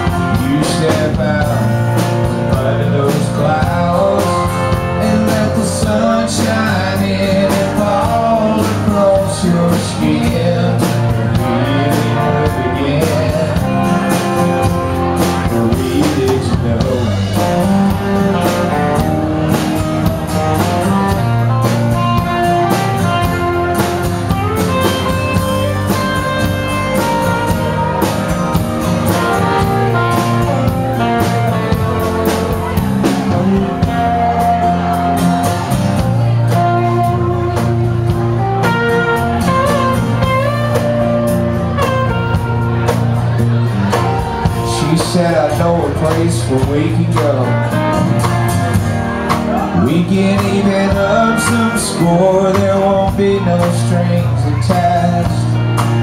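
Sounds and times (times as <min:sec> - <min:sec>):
acoustic guitar: 0:00.0 - 0:56.0
drum kit: 0:00.0 - 0:56.0
electric bass: 0:00.0 - 0:56.0
electric guitars: 0:00.0 - 0:56.0.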